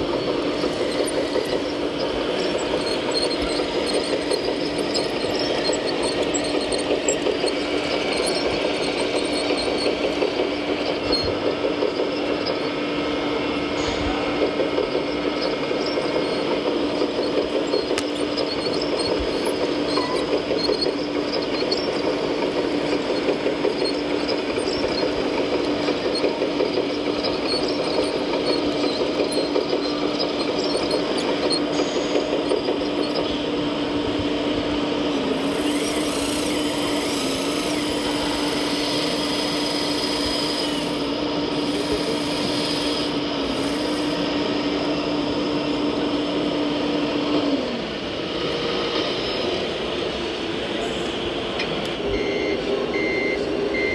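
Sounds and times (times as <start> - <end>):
model excavator humming: 0.0 - 53.9
tracks whirring: 0.0 - 53.9.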